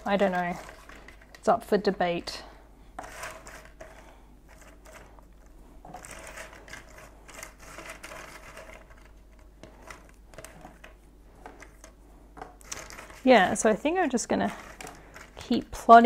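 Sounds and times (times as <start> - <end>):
puzzle pieces shuffled by hand: 0.0 - 1.5, 3.0 - 15.8.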